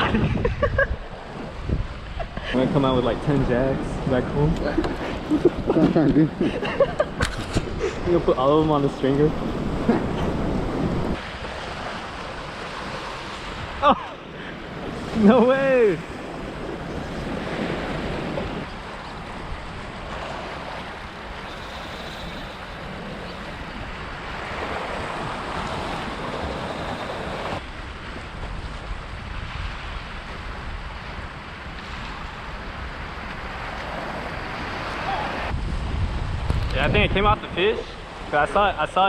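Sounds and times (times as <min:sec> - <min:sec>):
wind buffeting microphone: 0:00.0 - 0:38.4
surf washing against rocks: 0:01.0 - 0:36.1.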